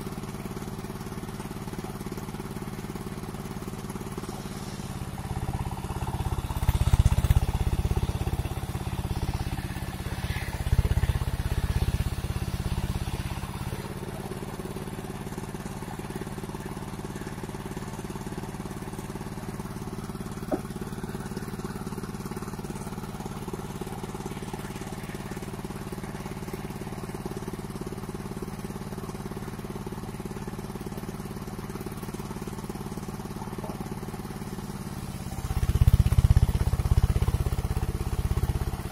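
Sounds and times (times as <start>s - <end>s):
sawmill engine running: 0.1s - 38.9s.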